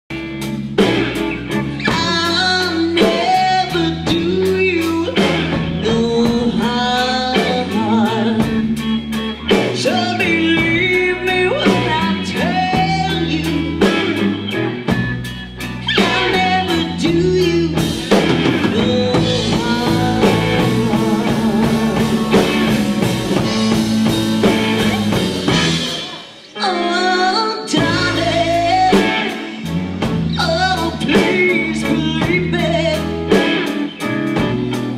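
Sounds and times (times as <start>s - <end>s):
blues-rock band playing: 0.1s - 34.9s
person singing: 1.7s - 14.5s, 15.8s - 34.1s.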